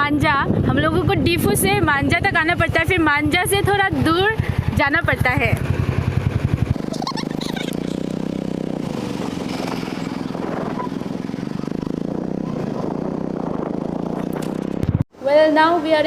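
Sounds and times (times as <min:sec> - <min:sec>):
vehicle engine humming: 0:00.9 - 0:15.1.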